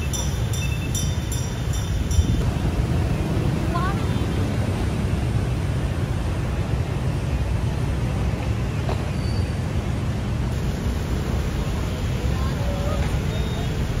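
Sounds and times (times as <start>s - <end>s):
cars passing: 0.0s - 14.0s
motorbikes passing: 0.0s - 14.0s.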